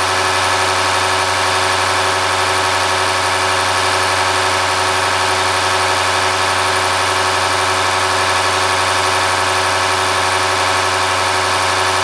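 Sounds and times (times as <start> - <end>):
injection pump on test bench humming: 0.0 - 12.0.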